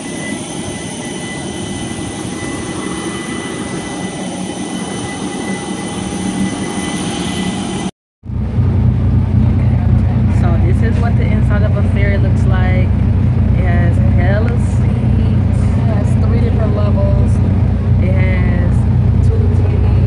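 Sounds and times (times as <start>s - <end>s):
deep ferry engine hum: 0.0s - 20.0s
jet airliner engines whining: 0.0s - 20.0s.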